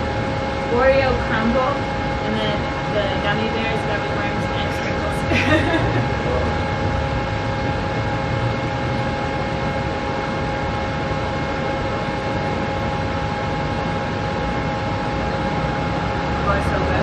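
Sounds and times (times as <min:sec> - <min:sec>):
mechanical rumble with humming tones: 0:00.0 - 0:17.0.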